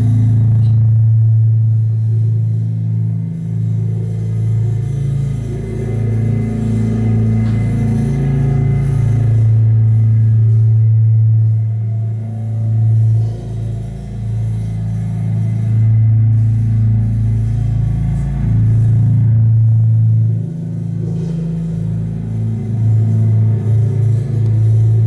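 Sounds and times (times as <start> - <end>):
low droning ensemble tones: 0.0 - 25.0.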